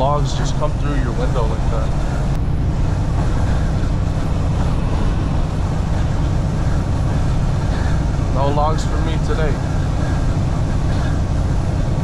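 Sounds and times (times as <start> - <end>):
road and tyre rumble: 0.0 - 12.0
truck engine droning: 0.0 - 12.0.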